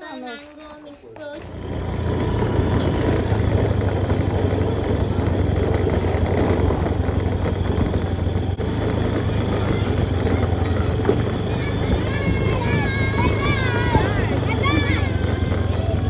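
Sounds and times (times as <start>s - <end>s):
vehicle engine drone: 1.4s - 16.0s.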